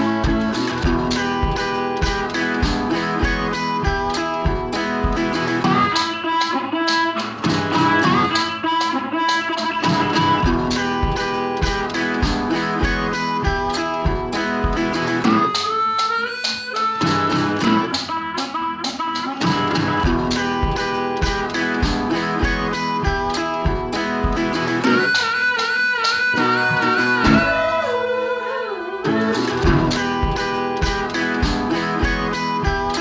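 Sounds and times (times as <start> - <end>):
plucked guitar music with beat: 0.0 - 33.0.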